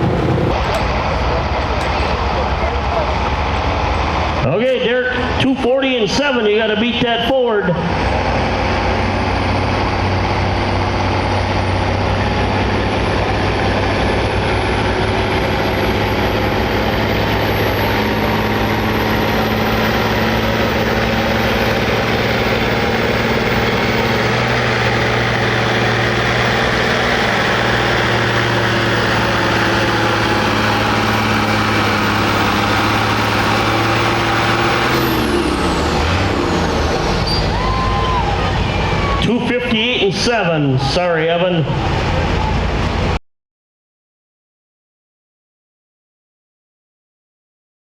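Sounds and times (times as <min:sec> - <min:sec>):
heavy vehicle engine running hard: 0:00.0 - 0:40.4, 0:41.5 - 0:43.2.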